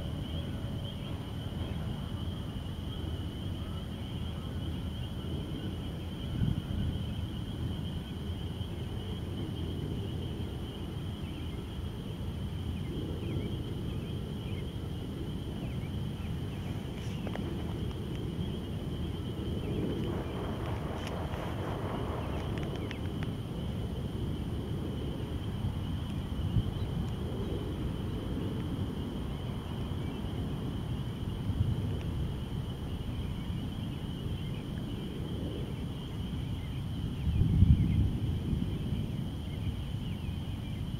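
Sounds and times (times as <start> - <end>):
high-pitched insect trill: 0.0 - 40.9.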